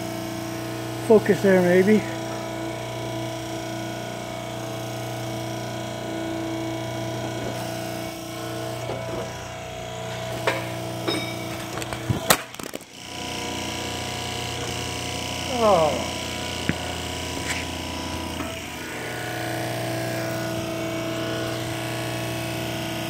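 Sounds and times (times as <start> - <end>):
electric motor hum: 0.0 - 23.0.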